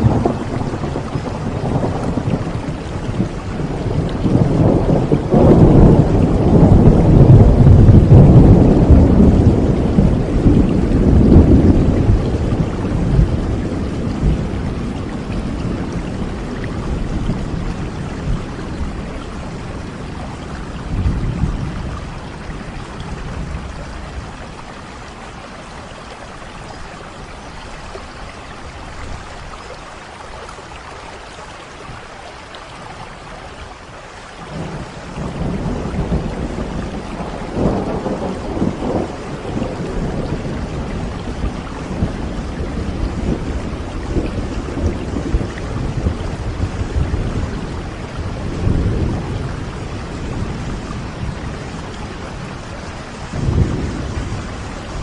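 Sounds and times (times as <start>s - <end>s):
rolling thunder: 0.0s - 24.9s, 34.5s - 55.0s
steady rain: 0.0s - 55.0s.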